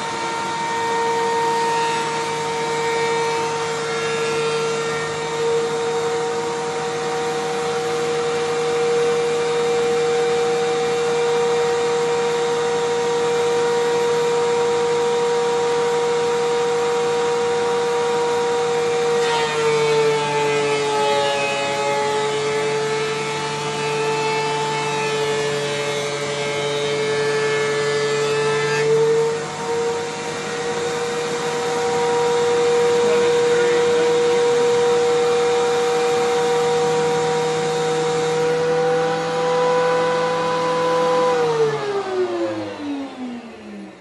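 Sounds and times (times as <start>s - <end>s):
shop vac running: 0.0s - 44.0s
thickness planer whining: 0.0s - 44.0s.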